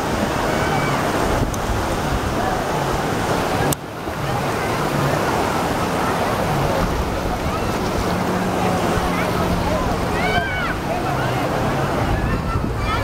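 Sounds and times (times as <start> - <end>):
crowd voices: 0.0 - 13.0
surf breaking: 0.0 - 13.0
wind on microphone: 0.0 - 13.0.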